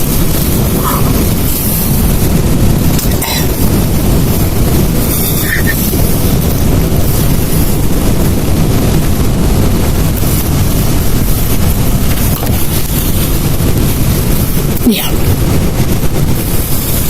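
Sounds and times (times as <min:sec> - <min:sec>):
heavy rain pouring: 0:00.0 - 0:17.0
wind buffeting microphone: 0:00.0 - 0:17.0.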